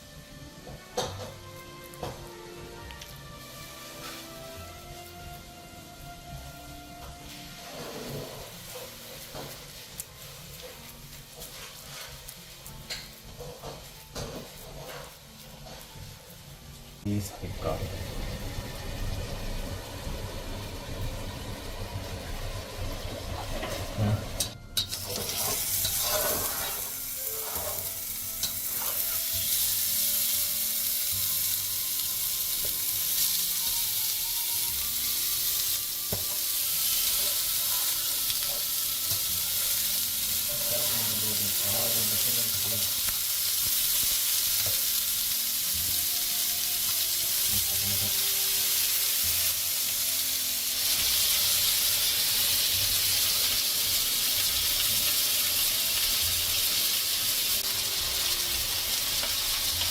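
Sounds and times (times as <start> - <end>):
food frying sizzle: 0.0 - 59.9.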